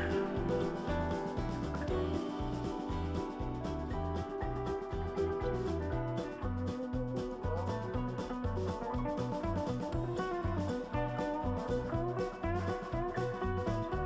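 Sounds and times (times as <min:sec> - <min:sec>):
guitar-led instrumental music: 0:00.0 - 0:14.0.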